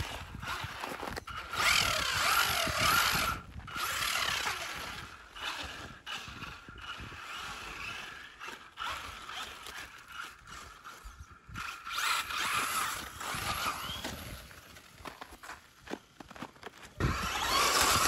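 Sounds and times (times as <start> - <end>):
electric motor whining: 0.0 - 14.8, 17.0 - 18.0
tyres on ice and snow: 0.0 - 18.0.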